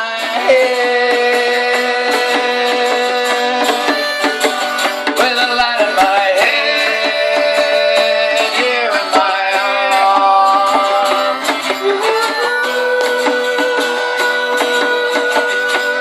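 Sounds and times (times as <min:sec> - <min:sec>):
folk band playing: 0:00.0 - 0:16.0.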